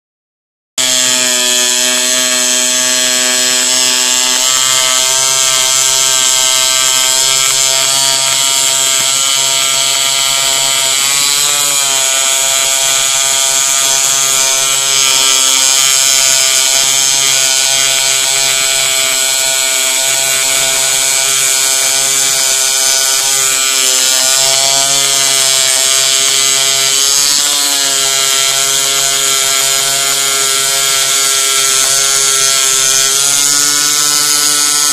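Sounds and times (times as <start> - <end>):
foam cutter buzzing: 0.8 - 34.9.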